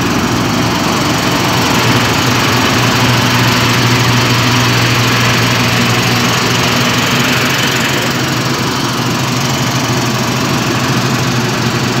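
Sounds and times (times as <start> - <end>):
diesel engine running loudly: 0.0 - 12.0.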